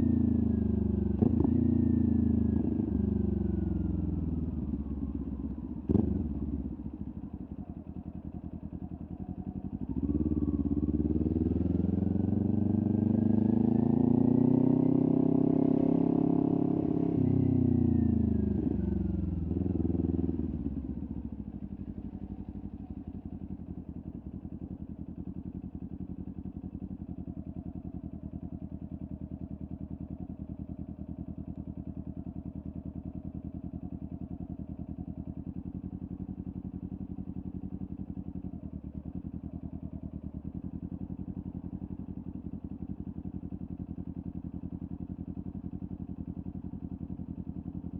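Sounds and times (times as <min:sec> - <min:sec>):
motorcycle engine revving and idling: 0:00.0 - 0:47.9.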